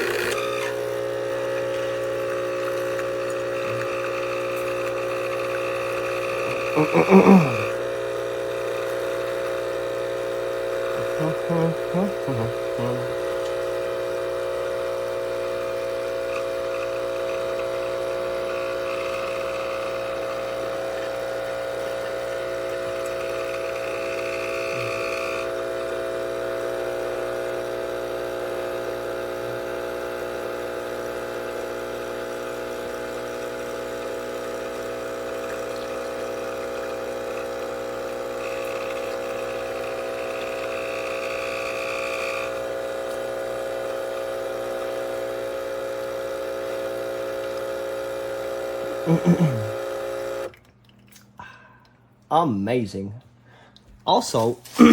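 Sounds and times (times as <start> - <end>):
espresso machine pump humming: 0.0 - 50.7.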